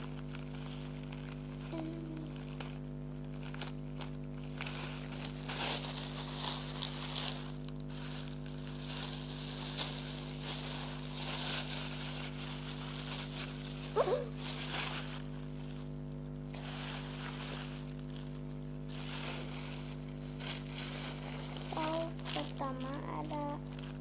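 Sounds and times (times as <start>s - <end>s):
electrical hum: 0.0s - 24.0s
plastic packaging crinkling: 0.0s - 24.0s.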